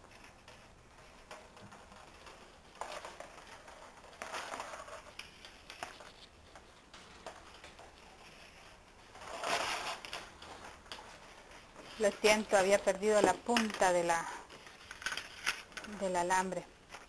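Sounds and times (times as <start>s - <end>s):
rustling of things handled: 0.0s - 17.0s.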